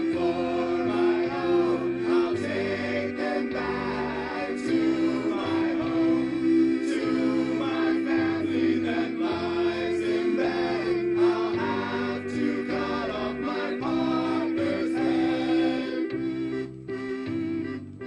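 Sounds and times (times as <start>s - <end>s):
voices singing together: 0.0s - 17.4s
loud held chord: 0.0s - 18.0s
stepping bass line: 0.0s - 18.0s.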